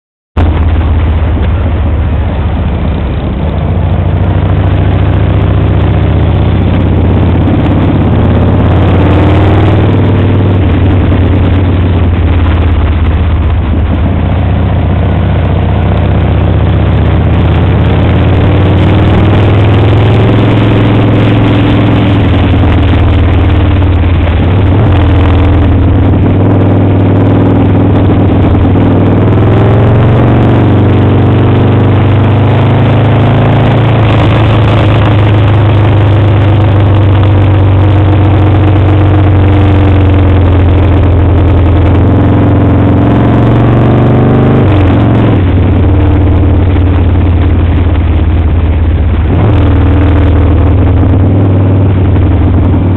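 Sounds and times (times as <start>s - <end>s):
motorcycle engine revving: 0.4s - 52.9s.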